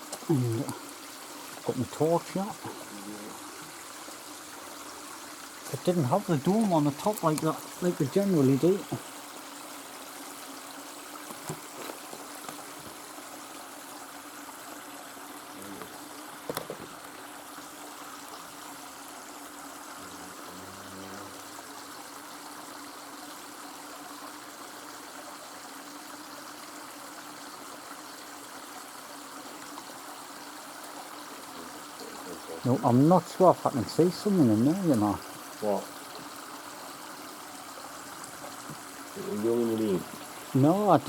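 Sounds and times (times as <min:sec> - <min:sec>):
stream flowing over stones: 0:00.0 - 0:41.0.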